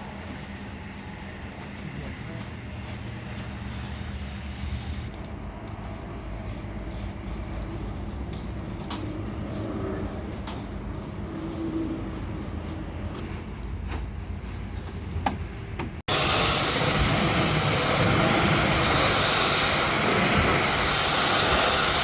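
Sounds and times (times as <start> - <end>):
machine low rumble: 0.0 - 22.0.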